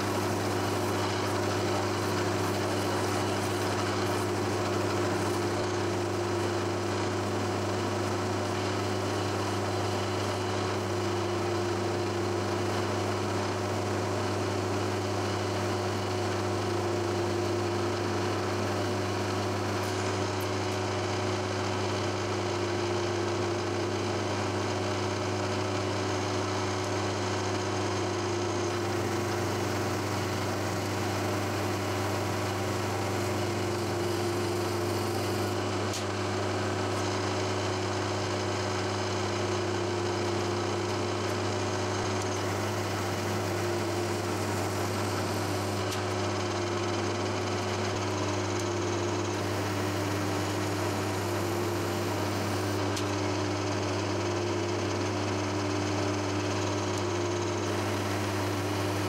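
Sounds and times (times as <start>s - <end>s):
end mill cutting steel: 0.0s - 21.5s, 26.9s - 53.9s, 56.8s - 59.0s
milling machine humming: 0.0s - 59.0s.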